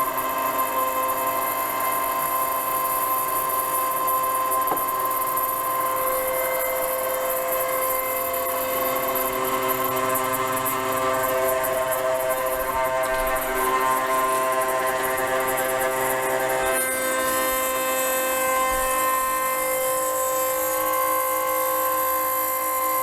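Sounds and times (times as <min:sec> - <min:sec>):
router spindle milling metal: 0:00.0 - 0:23.0.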